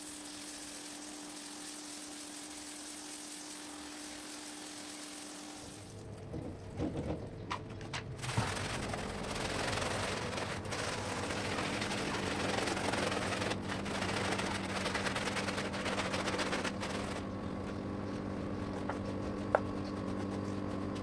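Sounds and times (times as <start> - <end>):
brush scrubbing soapy rug: 0.0 - 6.0, 8.2 - 17.2, 18.2 - 21.0
steady low hum: 0.0 - 21.0.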